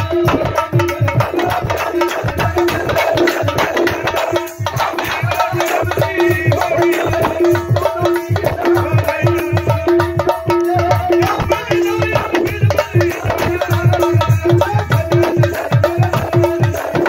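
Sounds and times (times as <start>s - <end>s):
hand drums fast rhythm: 0.0s - 17.0s.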